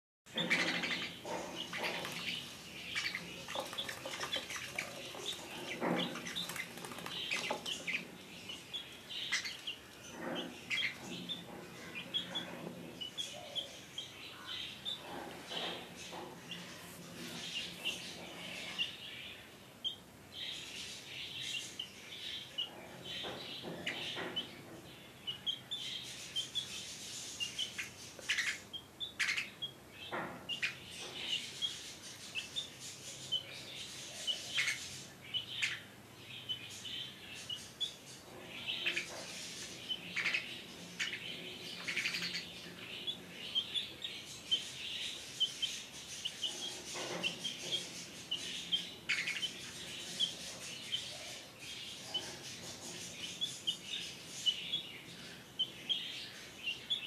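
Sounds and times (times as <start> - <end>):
chicks chirping: 0.3 - 57.0.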